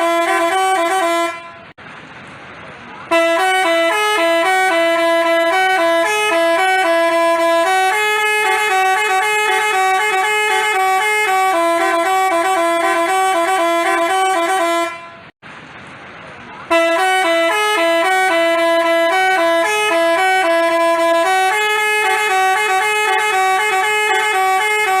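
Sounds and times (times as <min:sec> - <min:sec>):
multi-tone bus horn tune: 0:00.0 - 0:01.8, 0:03.0 - 0:15.4, 0:16.7 - 0:25.0.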